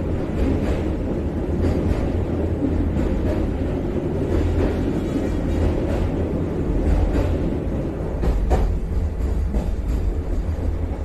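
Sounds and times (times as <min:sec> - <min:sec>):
electric train rumbling over bridge: 0:00.0 - 0:11.0.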